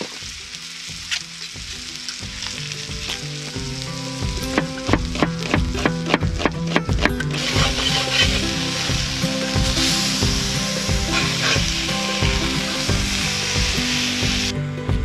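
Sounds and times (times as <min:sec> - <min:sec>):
meat sizzling on a griddle: 0:00.0 - 0:14.5.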